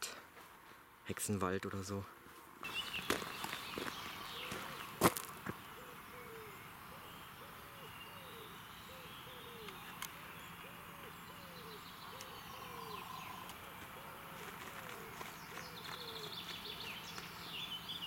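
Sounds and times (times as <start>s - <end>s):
bird low rising and falling call: 2.6s - 18.0s
faint high bird chirps: 2.6s - 18.0s.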